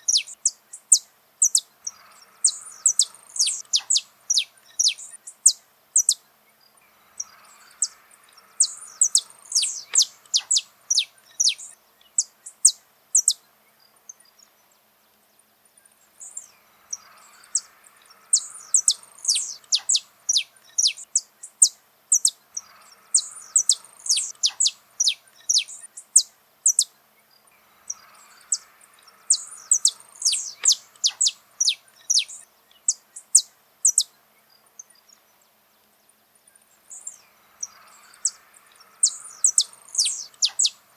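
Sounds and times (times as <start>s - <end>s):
finch chirping: 0.0s - 6.2s, 7.2s - 13.4s, 16.2s - 27.0s, 27.8s - 34.1s, 36.9s - 40.9s.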